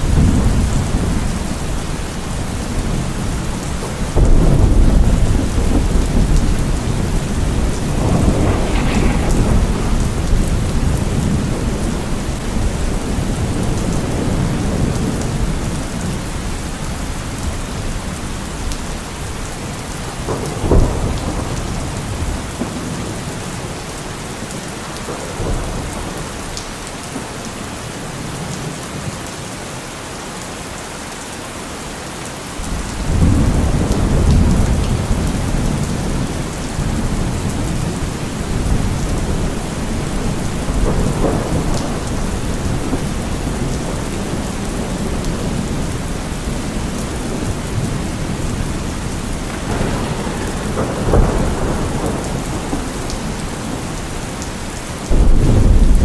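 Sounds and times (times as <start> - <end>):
sharp crack of thunder: 0.0 - 23.8, 32.6 - 56.0
rolling thunder: 0.0 - 26.6, 32.6 - 56.0
heavy rain: 0.0 - 56.0.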